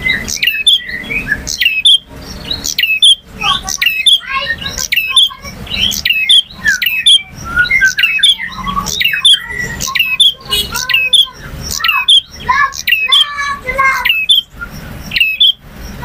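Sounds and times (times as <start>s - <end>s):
bird chattering and whistling: 0.0s - 16.0s.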